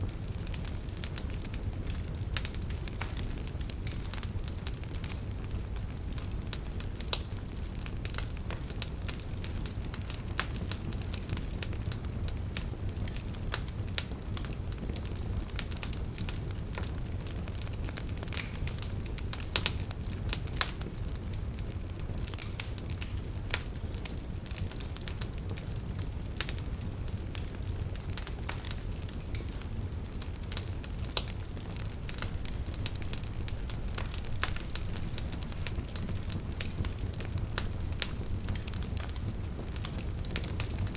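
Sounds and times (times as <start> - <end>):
crackling and popping wood: 0.0 - 40.9
wood fire burning: 0.0 - 40.9.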